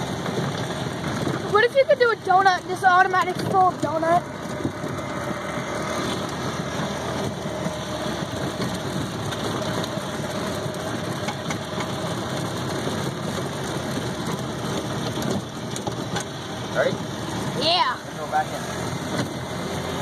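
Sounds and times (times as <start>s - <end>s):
golf cart engine running: 0.0s - 20.0s.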